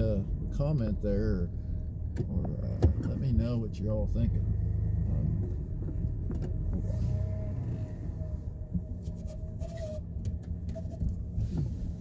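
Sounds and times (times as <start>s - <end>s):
truck engine rumble from cab: 0.0s - 12.0s.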